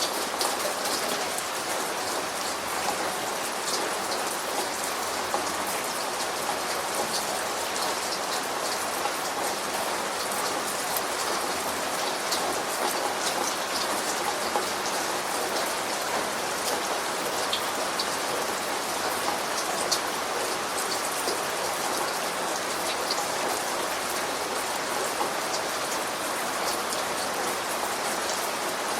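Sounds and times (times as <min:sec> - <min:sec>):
steady rain: 0:00.0 - 0:28.9.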